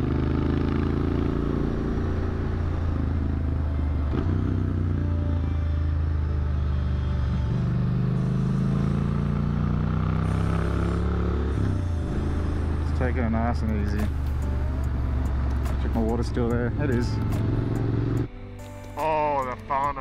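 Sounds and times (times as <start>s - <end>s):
motorcycle engine cruising: 0.0s - 18.3s
wind and road noise: 0.0s - 18.3s.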